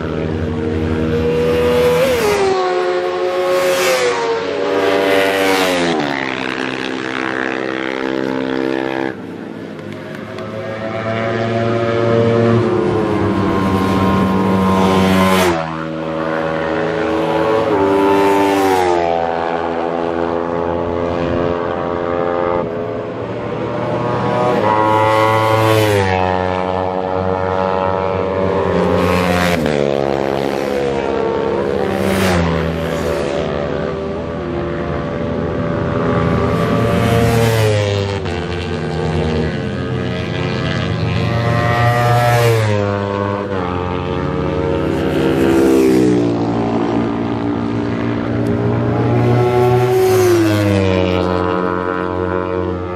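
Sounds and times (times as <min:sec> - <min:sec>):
motorcycles racing past: 0:00.0 - 0:52.9.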